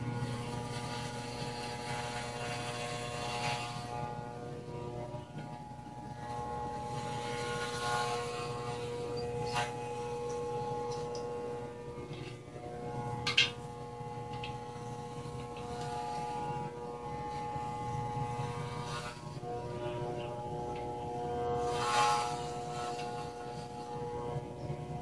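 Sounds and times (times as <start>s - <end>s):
electric hair clippers buzzing: 0.0s - 25.0s.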